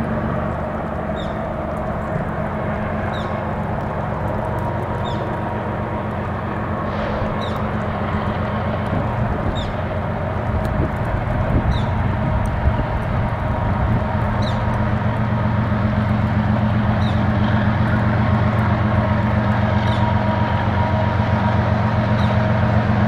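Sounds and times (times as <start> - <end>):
diesel locomotive engines droning: 0.0 - 23.0.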